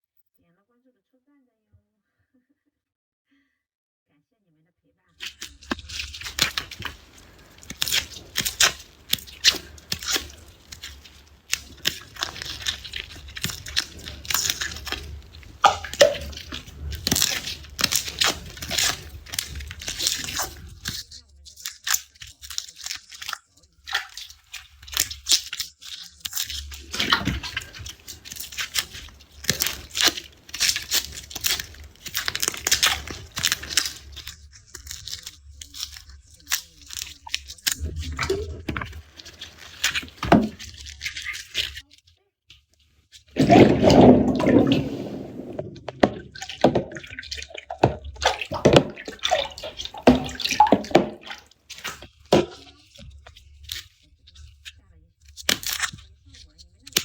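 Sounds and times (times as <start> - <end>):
garlic skins crackling and tearing: 5.2 - 41.9, 45.5 - 57.0.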